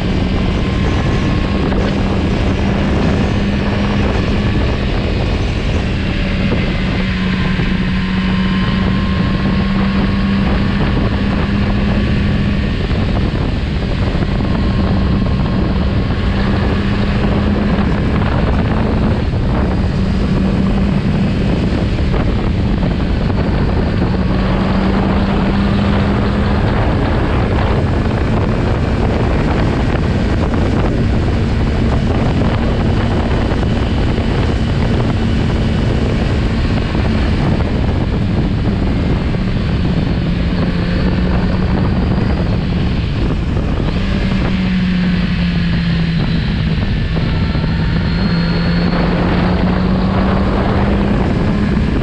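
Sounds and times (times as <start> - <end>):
motorcycle engine running: 0.0 - 52.0
wind noise on microphone: 0.0 - 52.0.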